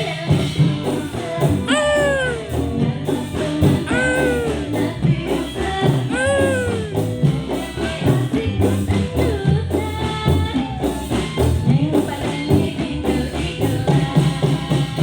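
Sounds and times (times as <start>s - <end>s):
band music through sound system: 0.0s - 15.0s.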